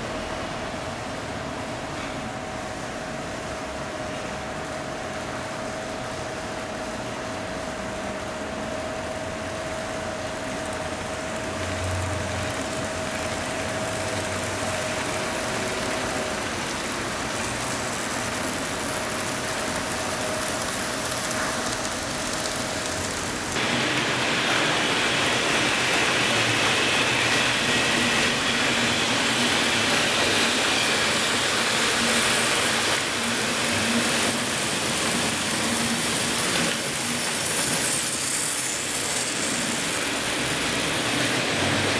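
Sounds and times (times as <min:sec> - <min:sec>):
model train wheels rolling: 0:03.3 - 0:41.9.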